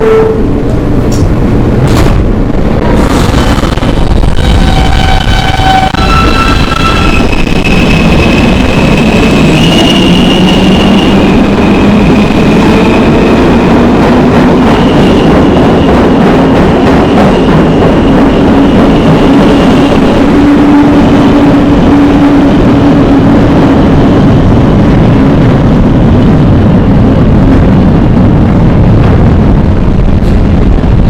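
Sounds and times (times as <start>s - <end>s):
distorted subway train noise: 0.0s - 31.0s.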